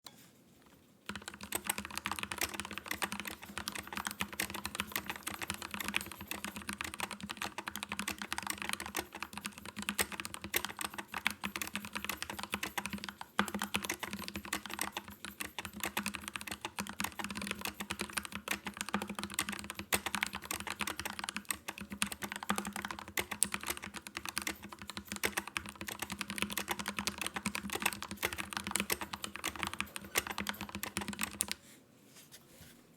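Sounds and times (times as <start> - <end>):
mechanical keyboard typing: 1.1 - 31.6.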